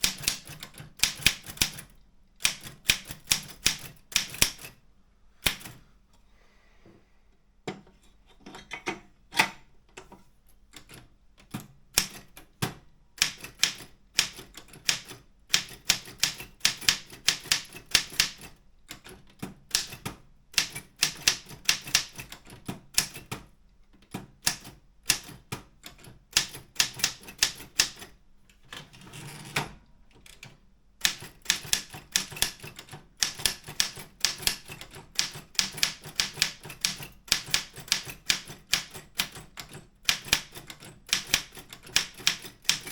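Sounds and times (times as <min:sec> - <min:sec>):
typewriter keystroke clacks: 0:00.0 - 0:04.8, 0:05.4 - 0:05.8, 0:10.8 - 0:42.9.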